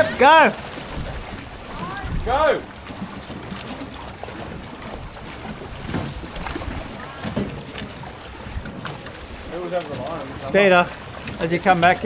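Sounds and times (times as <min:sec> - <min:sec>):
wind rumbling on microphone: 0:00.0 - 0:10.6
water lapping against a hull: 0:00.0 - 0:12.0.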